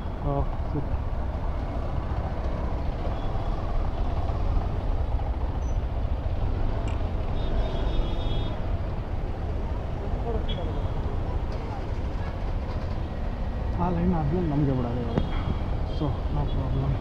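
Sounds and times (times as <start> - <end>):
bus engine running: 0.0 - 17.0
traffic: 0.0 - 17.0.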